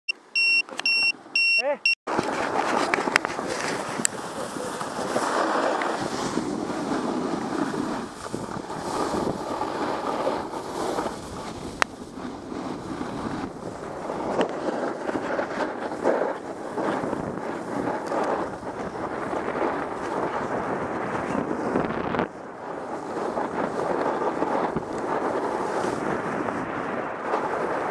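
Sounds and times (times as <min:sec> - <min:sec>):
skis sliding on snow: 0:02.1 - 0:27.9
wind on microphone: 0:02.1 - 0:27.9.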